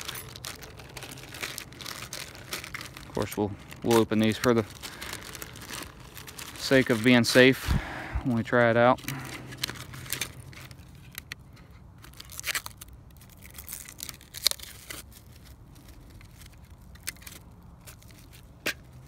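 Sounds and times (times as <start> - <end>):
plastic bags crinkling: 0.0 - 7.6, 8.4 - 18.6.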